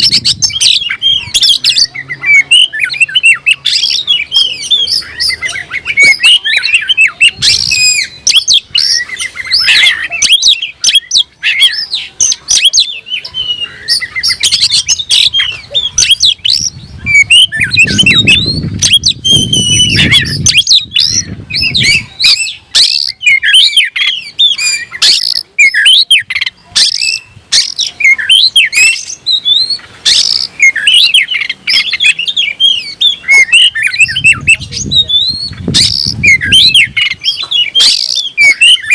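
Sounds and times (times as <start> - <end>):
bird singing loudly: 0.0 - 38.9.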